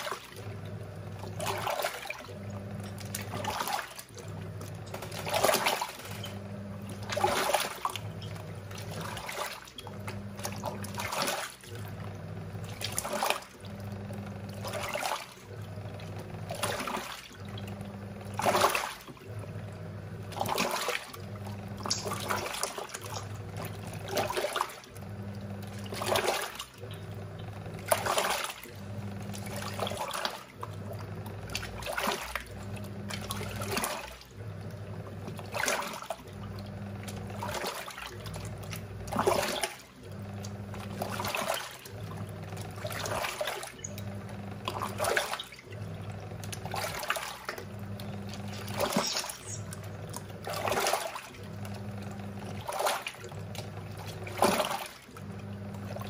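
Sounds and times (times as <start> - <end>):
washing machine motor humming: 0.0 - 56.0
water sloshing: 0.0 - 56.0.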